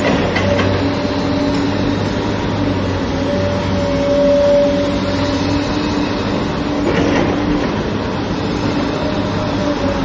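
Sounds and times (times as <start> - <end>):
excavator engine droning: 0.0 - 10.0.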